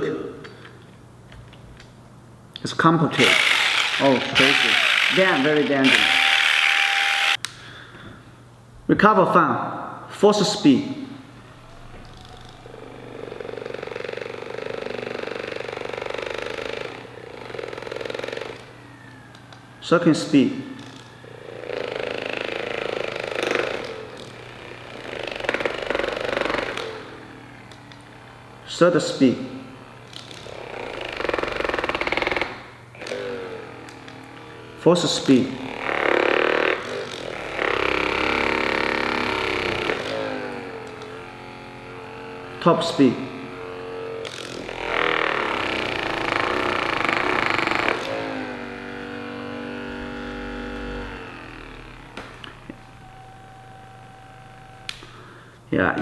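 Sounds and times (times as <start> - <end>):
massage gun buzzing: 3.1 - 7.4, 12.1 - 19.7, 20.5 - 56.0.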